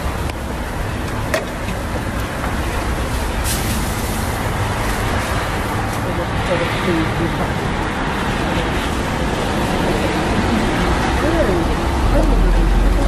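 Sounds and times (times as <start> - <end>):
traffic rumble and hiss: 0.0 - 13.0.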